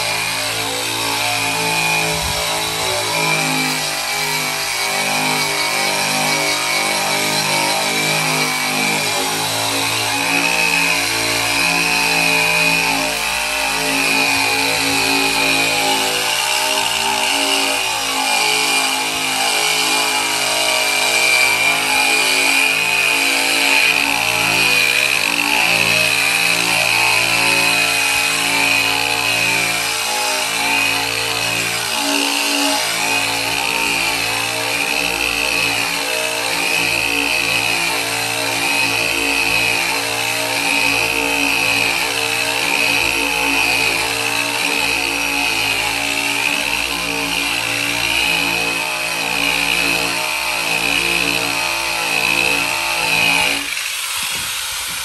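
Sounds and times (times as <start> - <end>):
power sander whining on metal: 0.0 - 55.0.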